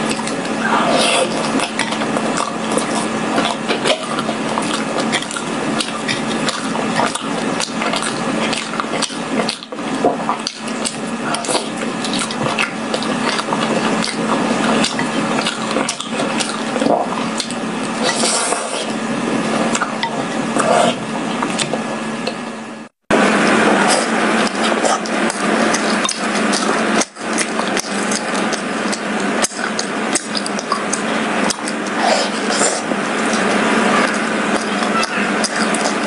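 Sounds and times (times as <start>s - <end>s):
wet chewing sounds: 0.0s - 22.9s, 23.5s - 36.0s
low steady hum: 0.0s - 36.0s.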